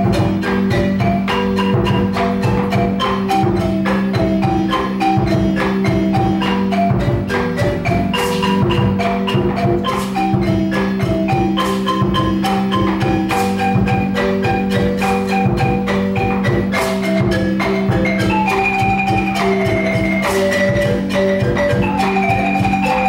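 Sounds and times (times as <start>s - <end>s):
marimba played with mallets: 0.0s - 23.0s
percussion beat: 0.0s - 23.0s.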